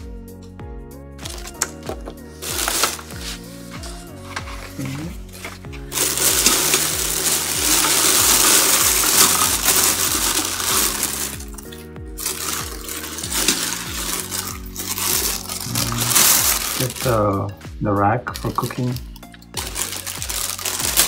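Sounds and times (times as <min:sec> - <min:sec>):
background music with steady beat: 0:00.0 - 0:21.0
plastic bags crinkling: 0:01.2 - 0:17.5, 0:18.3 - 0:21.0.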